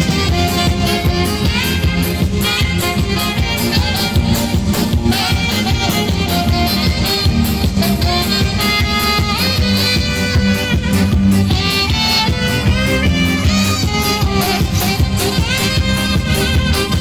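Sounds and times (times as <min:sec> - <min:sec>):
lead melody: 0:00.0 - 0:17.0
steady drum beat: 0:00.0 - 0:17.0.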